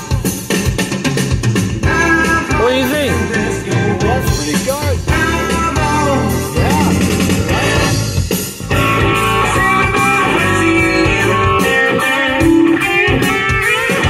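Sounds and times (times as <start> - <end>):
guitar music on car stereo: 0.0 - 14.0.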